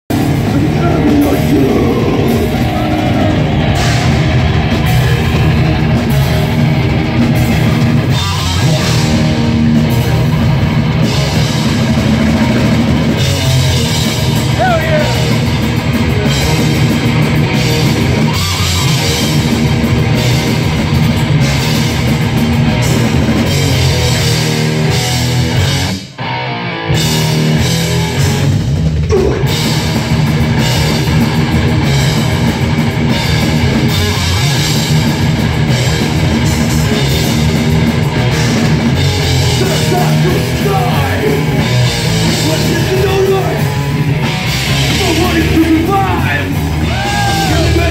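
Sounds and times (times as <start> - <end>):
heavy metal band playing: 0.0 - 47.9.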